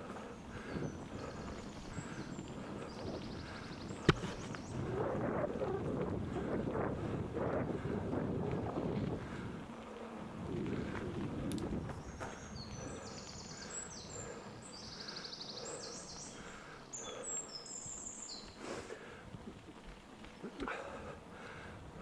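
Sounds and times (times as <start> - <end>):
bike rolling on dirt trail: 0.0 - 22.0.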